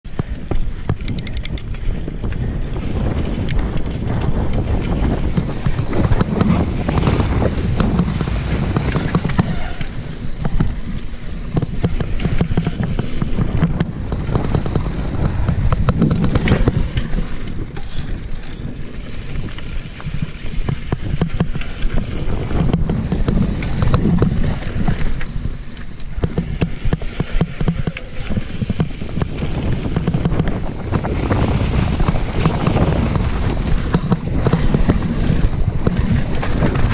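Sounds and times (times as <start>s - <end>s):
bike rattling over bumps: 0.0s - 36.9s
wind buffeting microphone: 0.0s - 36.9s
bike tyres crunching on stones: 0.1s - 36.9s.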